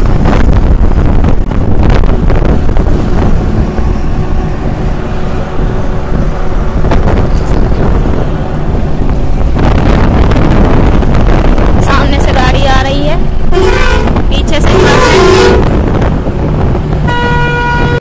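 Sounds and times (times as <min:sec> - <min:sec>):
motorcycle road and engine noise: 0:00.0 - 0:18.0
wind buffeting microphone: 0:00.0 - 0:18.0.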